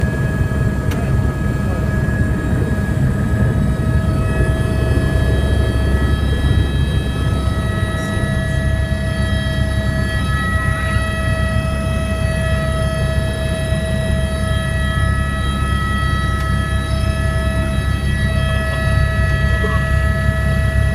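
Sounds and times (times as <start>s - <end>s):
helicopter in flight: 0.0s - 20.9s.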